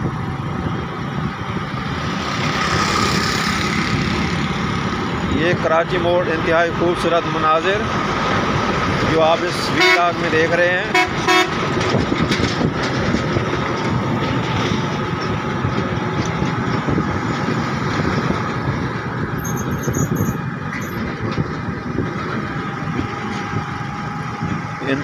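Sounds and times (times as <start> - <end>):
road traffic noise: 0.0 - 25.0
truck engine running: 0.0 - 25.0.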